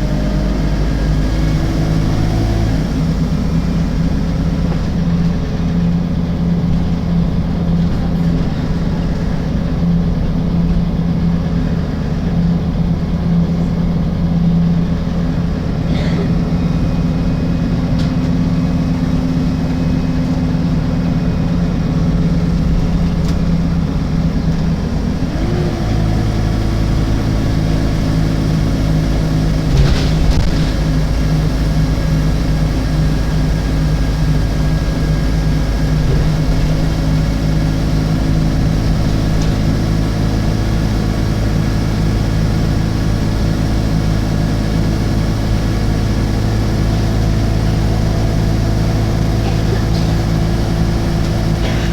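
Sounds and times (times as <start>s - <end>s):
bus diesel engine humming: 0.0s - 51.9s.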